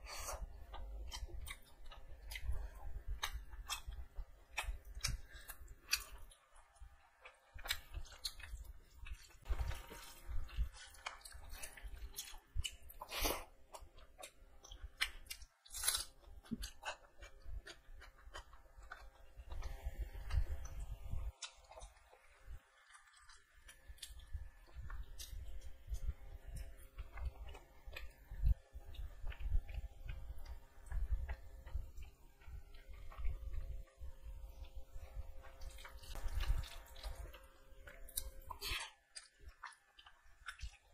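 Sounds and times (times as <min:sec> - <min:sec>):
chewing food: 0:00.0 - 0:40.9.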